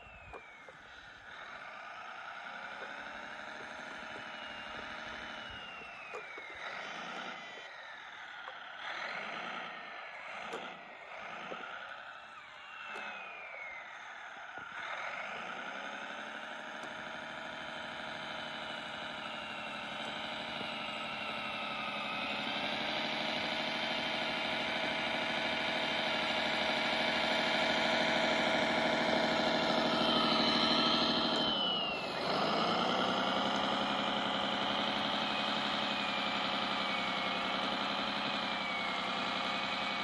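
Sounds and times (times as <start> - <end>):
remote control vehicle motor: 0.0 - 40.0.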